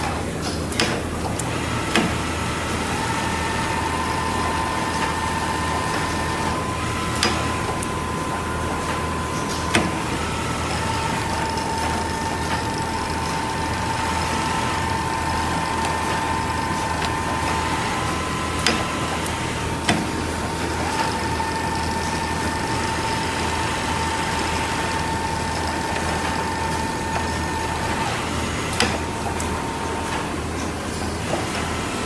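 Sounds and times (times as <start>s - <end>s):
sewing machine running: 1.4s - 32.0s.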